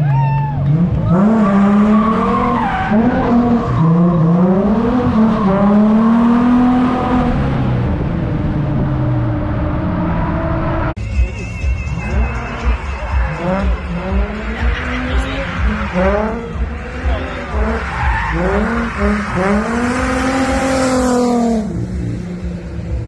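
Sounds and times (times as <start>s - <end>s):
tyres skidding: 0.0s - 23.0s
car engine revving hard: 0.7s - 11.0s, 12.0s - 22.8s.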